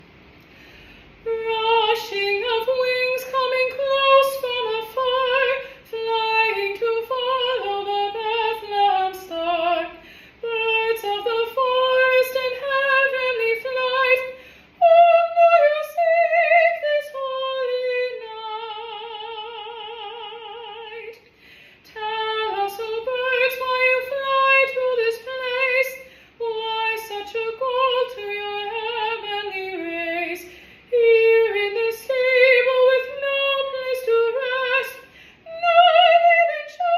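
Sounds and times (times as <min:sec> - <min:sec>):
woman singing unaccompanied: 0:01.2 - 0:21.2, 0:21.8 - 0:36.9.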